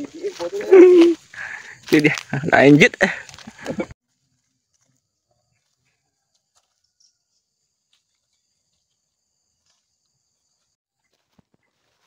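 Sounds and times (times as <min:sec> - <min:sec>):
faint high insect drone: 0:00.0 - 0:10.8
footsteps on dry leaves: 0:00.0 - 0:12.0.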